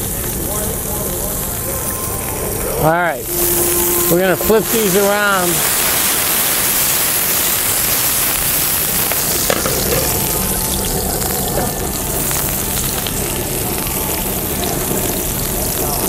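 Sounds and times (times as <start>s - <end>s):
peppers sizzling in hot oil: 0.0s - 16.0s.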